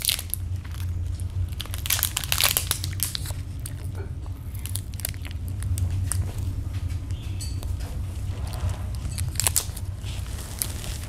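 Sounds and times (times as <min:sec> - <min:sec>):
biting into granola bar: 0:00.0 - 0:07.2, 0:08.3 - 0:11.0
plastic wrapper crinkling and tearing: 0:00.0 - 0:07.2, 0:08.3 - 0:11.0
steady low hum: 0:00.0 - 0:11.0.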